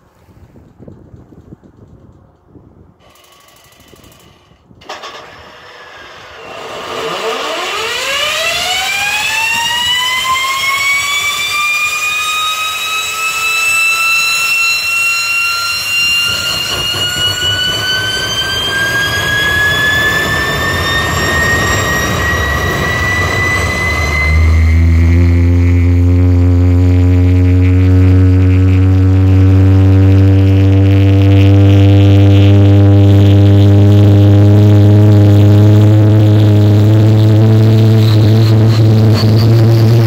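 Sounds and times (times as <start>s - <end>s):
turbine whine rising: 1.8s - 40.0s
jet engine roar: 3.0s - 40.0s.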